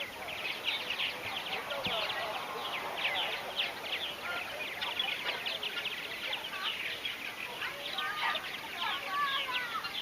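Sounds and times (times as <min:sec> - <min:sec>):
birds chirping in chorus: 0:00.0 - 0:10.0.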